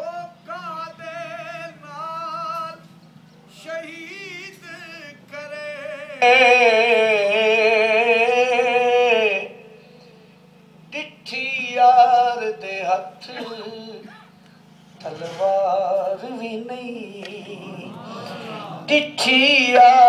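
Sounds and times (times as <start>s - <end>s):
man singing through loudspeakers: 0.0s - 2.9s, 3.5s - 9.8s, 10.9s - 14.4s, 15.0s - 20.0s.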